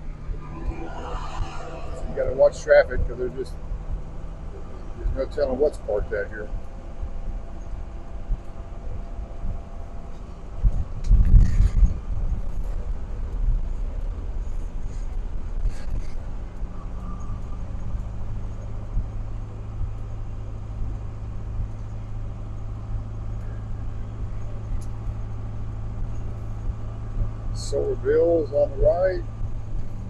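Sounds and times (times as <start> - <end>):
bus engine running: 0.0 - 30.0
road noise: 0.0 - 30.0.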